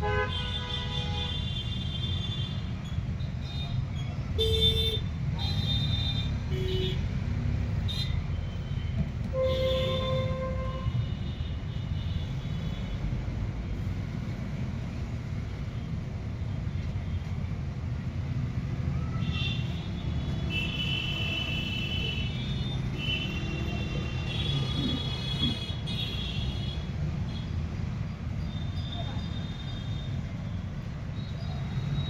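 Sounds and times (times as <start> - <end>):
low rumble of vehicle traffic: 0.0 - 32.0.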